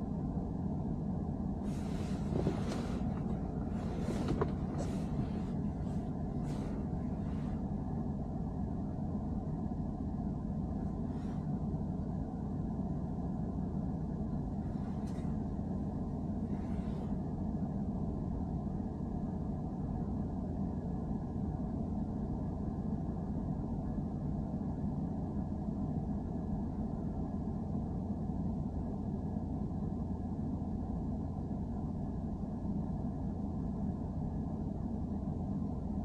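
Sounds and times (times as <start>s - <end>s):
car road and engine rumble: 0.0s - 36.0s.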